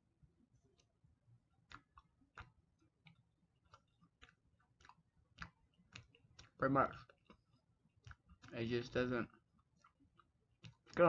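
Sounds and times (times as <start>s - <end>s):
mouth clicks of chewing: 1.6s - 11.0s.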